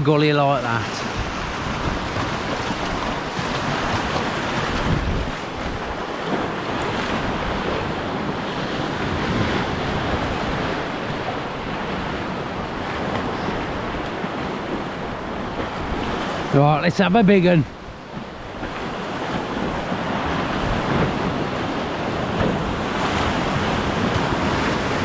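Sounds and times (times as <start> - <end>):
wind buffeting microphone: 0.0 - 16.6, 17.6 - 25.0
sea waves washing against rocks: 0.0 - 25.0.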